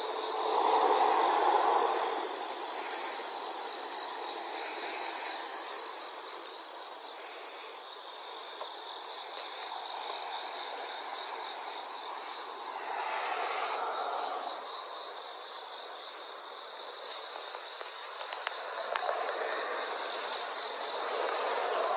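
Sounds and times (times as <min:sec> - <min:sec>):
background rushing noise: 0:00.0 - 0:21.9
insects chirring: 0:00.0 - 0:21.9.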